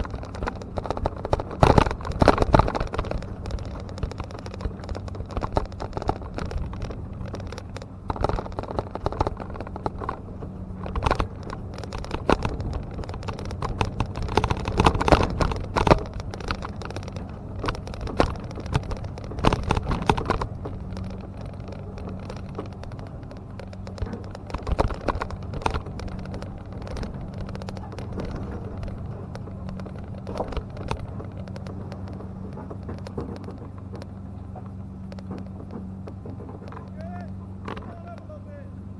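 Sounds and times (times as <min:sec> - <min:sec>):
clatters knocks and scrapes: 0:00.0 - 0:38.4.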